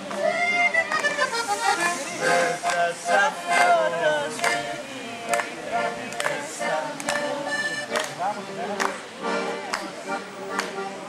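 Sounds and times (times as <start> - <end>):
accordion folk dance music: 0.0 - 11.0
voices singing along: 0.0 - 11.0.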